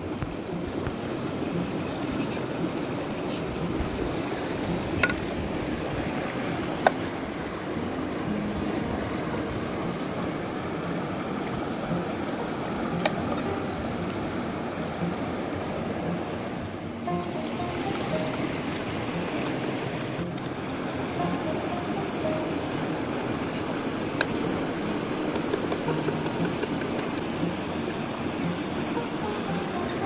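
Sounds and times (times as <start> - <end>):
stream flowing over rocks: 0.0 - 30.0.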